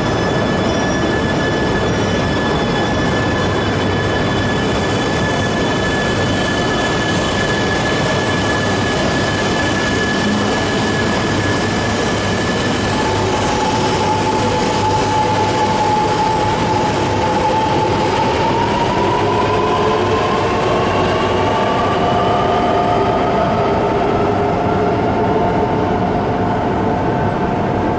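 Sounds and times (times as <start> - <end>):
high train motor whine: 0.0 - 27.9.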